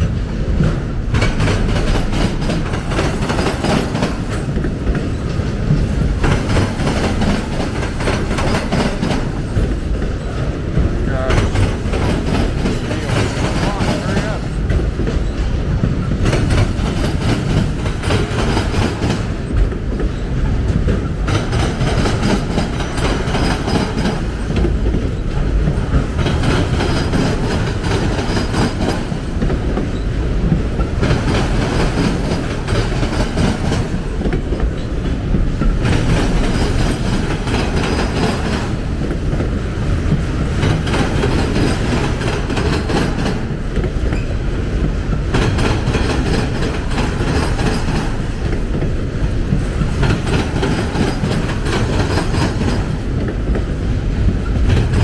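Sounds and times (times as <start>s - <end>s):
clickety-clack at rail joints: 0.0s - 55.0s
freight train wheels rumbling: 0.0s - 55.0s.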